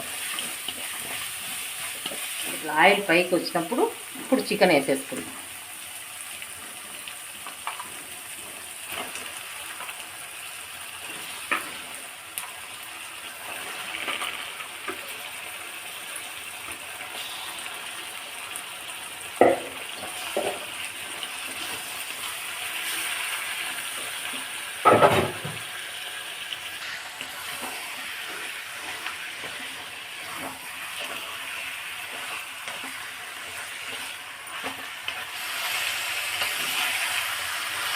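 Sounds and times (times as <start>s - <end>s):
chicken sizzling in oil: 0.0s - 37.9s.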